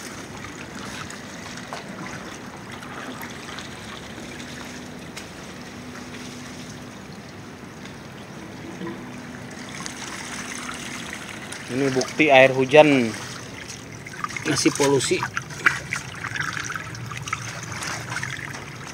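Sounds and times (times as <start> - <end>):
water trickling: 0.0 - 18.9.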